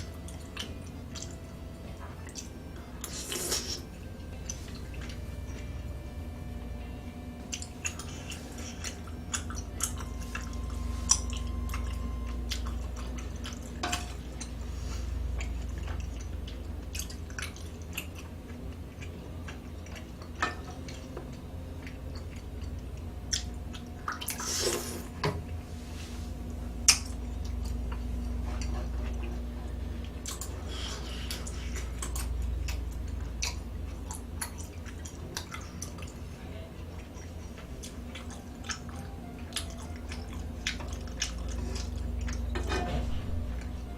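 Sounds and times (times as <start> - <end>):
chewing: 0.0 - 5.9, 7.4 - 25.6, 26.4 - 43.9
low steady hum: 0.0 - 43.9.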